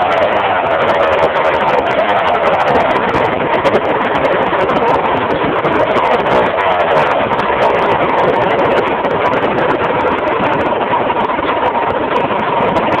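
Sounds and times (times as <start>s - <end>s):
kart engine running loud: 0.0s - 13.0s.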